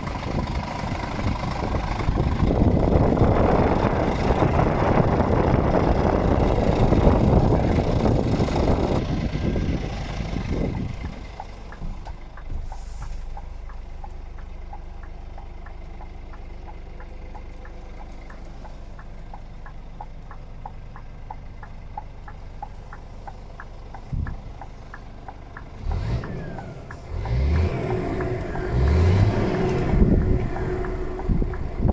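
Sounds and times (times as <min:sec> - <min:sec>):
diesel truck engine idling: 0:00.0 - 0:31.9
light ticking: 0:00.1 - 0:31.9.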